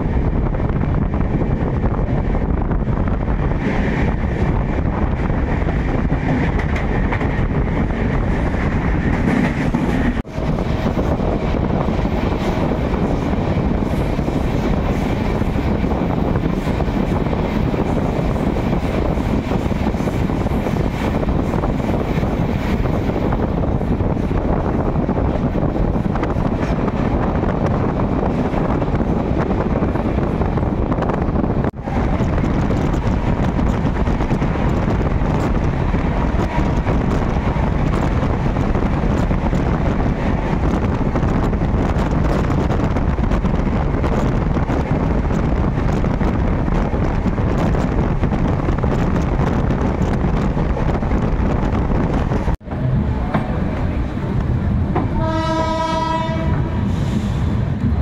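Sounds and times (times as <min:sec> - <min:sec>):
express train running fast: 0:00.0 - 0:58.0
wind buffeting the microphone: 0:00.0 - 0:58.0.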